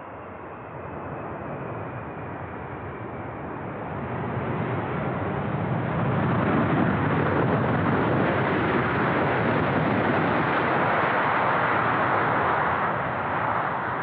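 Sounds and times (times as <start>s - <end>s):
jet airliner landing roar: 0.0s - 14.0s.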